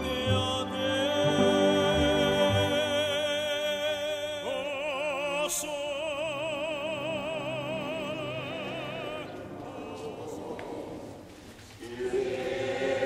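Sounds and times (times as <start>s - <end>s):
orchestral accompaniment: 0.0s - 11.1s.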